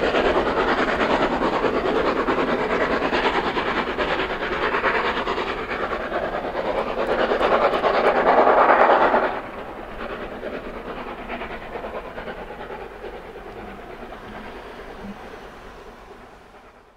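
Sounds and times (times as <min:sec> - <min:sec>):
train rumble and exhaust hiss: 0:00.0 - 0:16.9.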